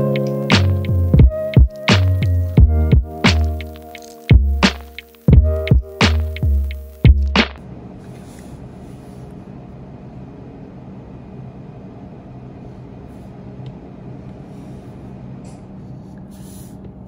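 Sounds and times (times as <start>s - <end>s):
room tone hum and hiss: 0.0s - 17.0s.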